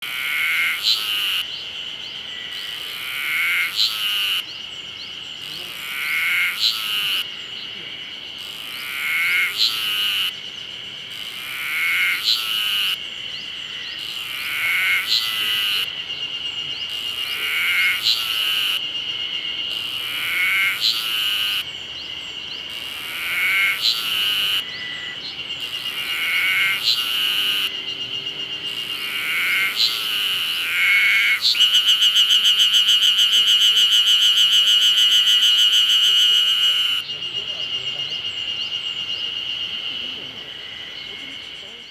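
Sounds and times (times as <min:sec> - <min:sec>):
cicada call phrase: 0:00.0 - 0:41.9
cicadas buzzing chorus: 0:00.0 - 0:41.9.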